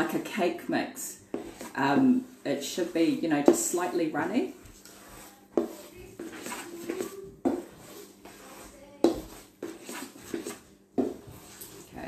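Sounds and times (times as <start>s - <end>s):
batter mixed in metal bowl: 0.0s - 12.0s.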